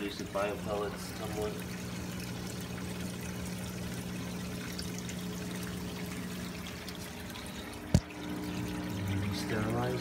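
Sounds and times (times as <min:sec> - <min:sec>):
steady low hum: 0:00.0 - 0:10.0
water trickling and splashing: 0:00.0 - 0:10.0.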